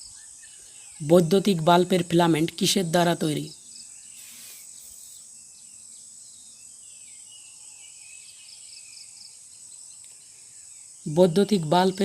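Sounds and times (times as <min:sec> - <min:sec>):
bird chirps: 0:00.0 - 0:12.0
insect trilling: 0:00.0 - 0:12.0.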